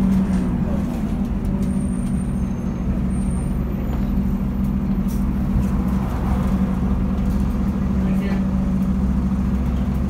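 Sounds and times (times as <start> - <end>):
bus engine drone: 0.0 - 10.0.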